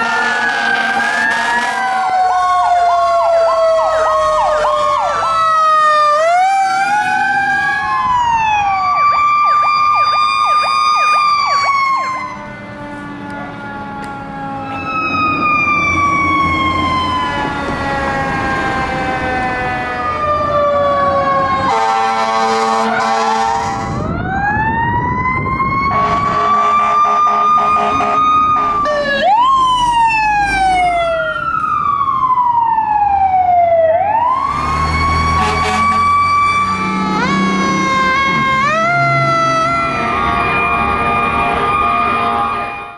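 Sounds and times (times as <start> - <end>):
emergency vehicle sirens: 0.0 - 42.9.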